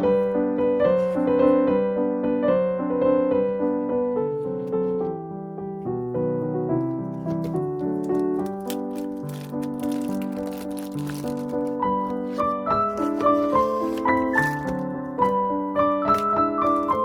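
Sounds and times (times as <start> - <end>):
solo piano melody: 0.0 - 17.0.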